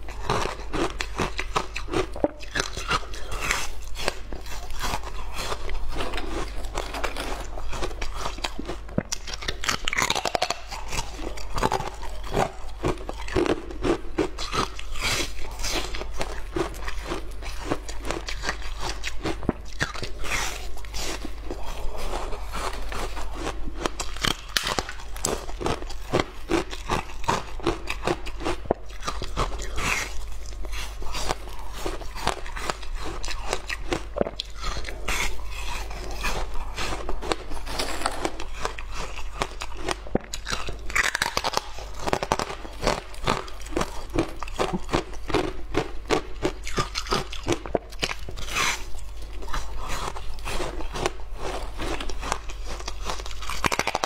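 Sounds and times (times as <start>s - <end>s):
crunching frozen ice: 0.0s - 54.0s.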